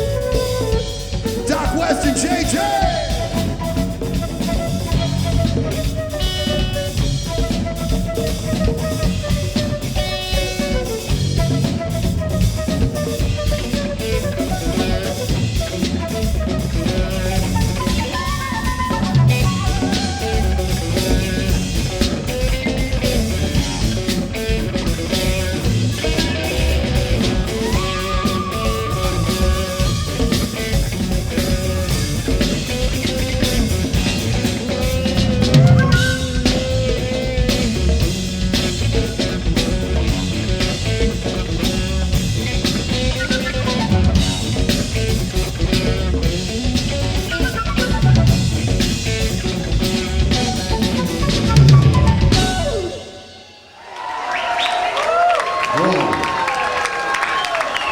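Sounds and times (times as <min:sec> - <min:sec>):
electric guitar: 0:00.0 - 0:53.6
drum kit: 0:00.0 - 0:54.2.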